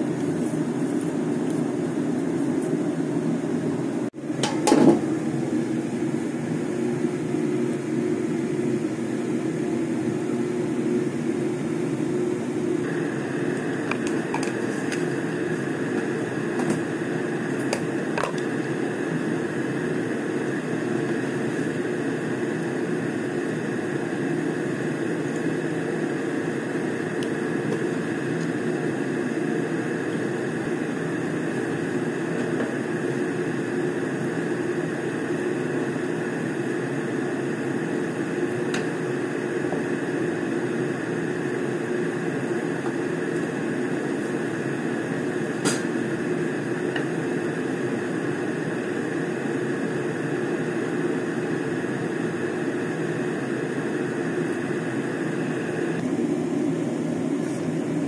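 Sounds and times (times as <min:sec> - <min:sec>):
high steady whine: 0:00.0 - 0:58.0
machine hum: 0:00.0 - 0:58.0.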